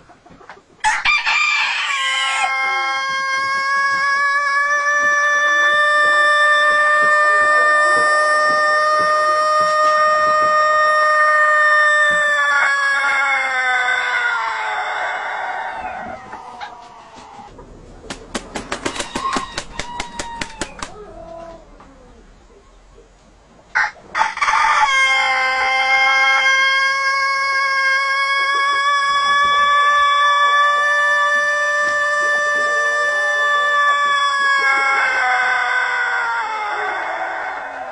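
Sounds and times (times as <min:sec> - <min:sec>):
rooster crowing: 0:00.8 - 0:17.5, 0:18.8 - 0:21.7, 0:23.7 - 0:37.9.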